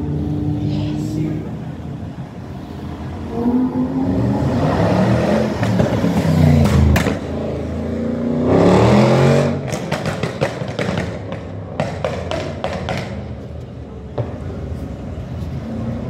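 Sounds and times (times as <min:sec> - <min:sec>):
car engines revving past: 0:00.0 - 0:13.3.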